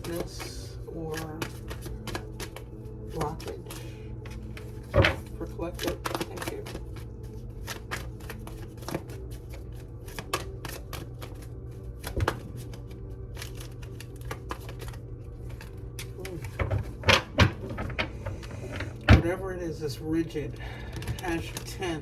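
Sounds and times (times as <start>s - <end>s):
cards being shuffled: 0.0s - 22.0s.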